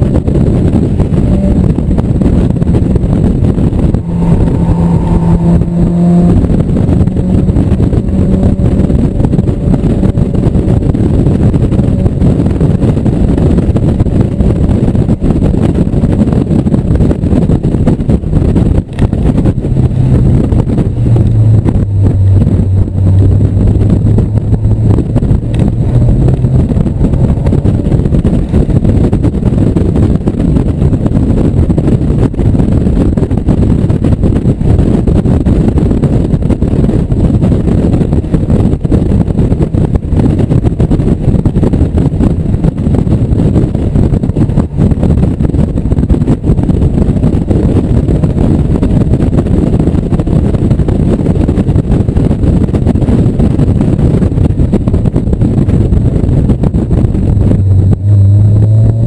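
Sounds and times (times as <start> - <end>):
car engine running hard: 0.0 - 59.0
road noise: 0.0 - 59.0
wind noise: 0.0 - 59.0.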